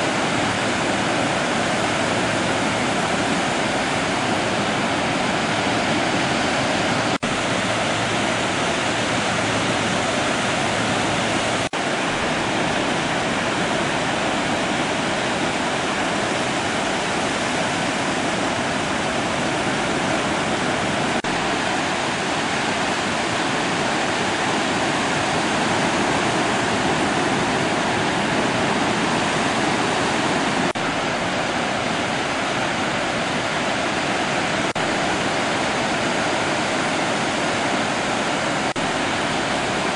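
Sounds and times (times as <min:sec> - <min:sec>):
surf: 0:00.0 - 0:39.9.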